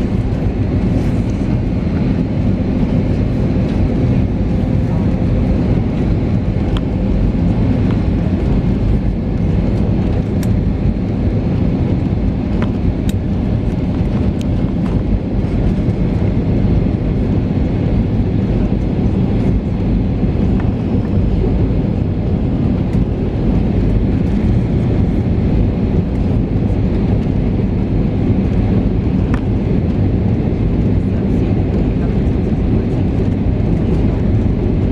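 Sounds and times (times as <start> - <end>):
airflow rushing in cabin: 0.0 - 34.9
jet engines humming: 0.0 - 34.9.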